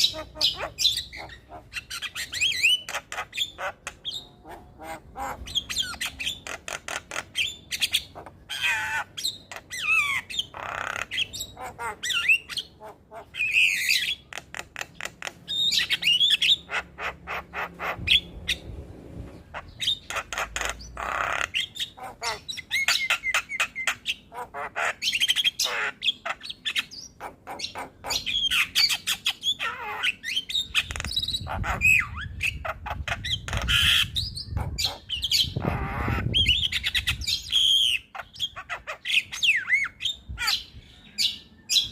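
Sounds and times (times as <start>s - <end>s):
bird chattering song: 0.0s - 41.9s.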